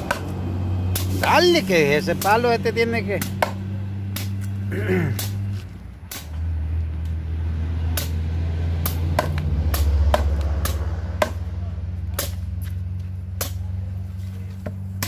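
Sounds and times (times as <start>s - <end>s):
machetes chopping wood: 0.0s - 6.4s, 7.8s - 13.9s.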